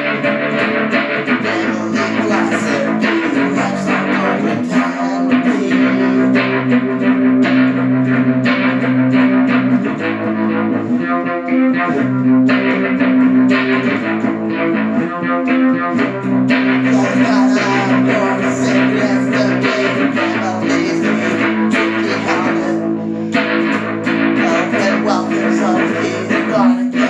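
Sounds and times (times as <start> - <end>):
guitar strumming chords: 0.0 - 27.0.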